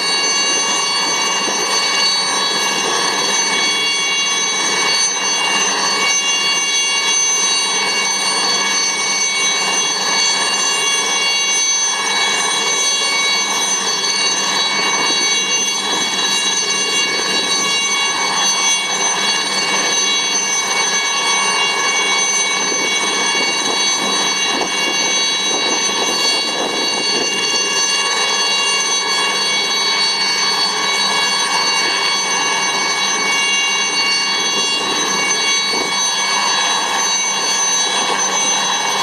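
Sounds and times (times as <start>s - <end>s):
broad rush of engine noise: 0.0s - 39.0s
helicopter turbine whine: 0.0s - 39.0s.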